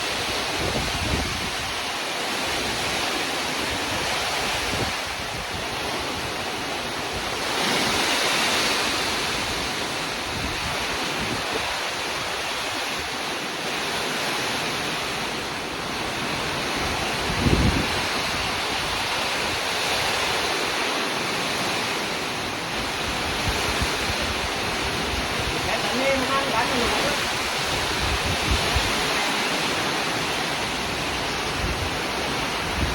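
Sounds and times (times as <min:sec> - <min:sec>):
heavy rain falling: 0:00.0 - 0:32.9
wind: 0:00.0 - 0:32.9.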